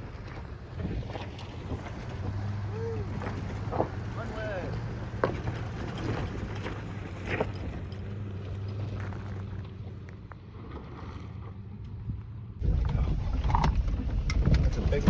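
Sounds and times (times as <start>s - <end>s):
truck engine running: 0.0s - 10.1s, 12.6s - 15.0s.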